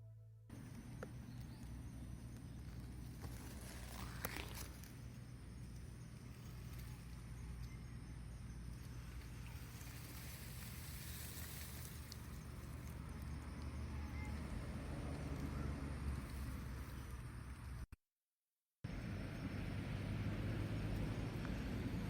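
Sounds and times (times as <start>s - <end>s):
outdoor background noise: 0.0s - 18.0s, 18.8s - 22.0s.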